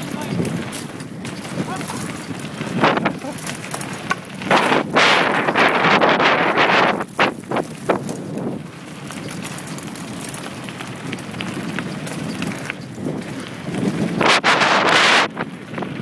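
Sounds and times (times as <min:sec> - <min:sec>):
wind on microphone: 0:00.0 - 0:09.6, 0:11.0 - 0:16.0
tyres crunching over stones: 0:00.0 - 0:14.2
bike clicks and rattles: 0:00.0 - 0:16.0.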